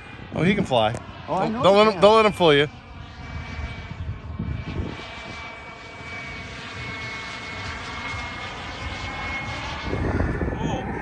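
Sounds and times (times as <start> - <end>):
model jet engine whining: 0.0 - 11.0.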